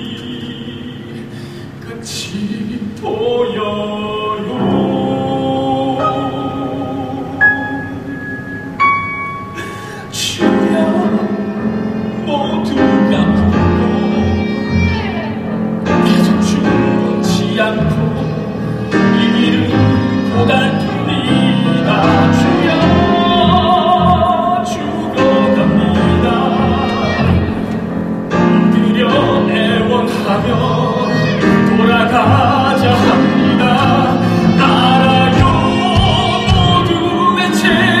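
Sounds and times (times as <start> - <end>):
person singing: 0.0 - 8.2, 9.2 - 38.0
piano accompaniment: 0.0 - 38.0.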